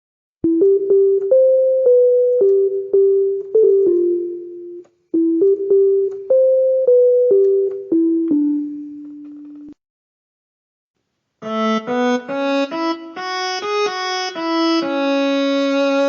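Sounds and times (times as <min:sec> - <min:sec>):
electronic keyboard melody: 0:00.4 - 0:09.8, 0:11.4 - 0:16.0.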